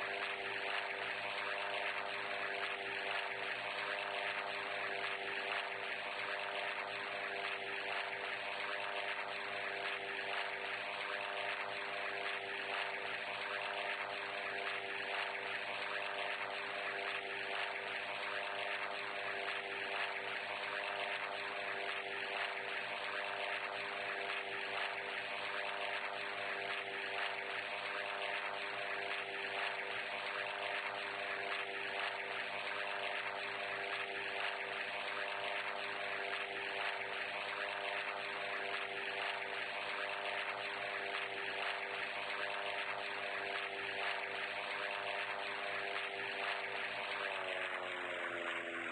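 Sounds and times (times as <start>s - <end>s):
aircraft engine droning: 0.0s - 48.9s.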